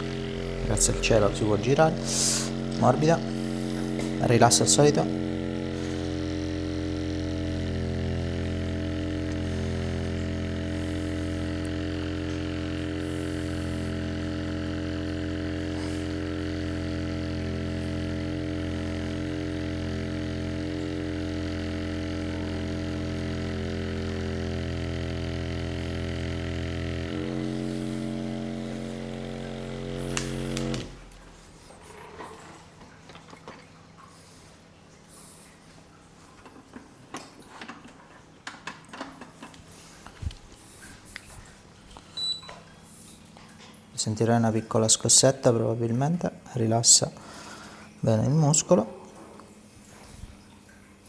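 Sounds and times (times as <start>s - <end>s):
massage device motor hum: 0.0s - 37.3s, 39.2s - 51.0s.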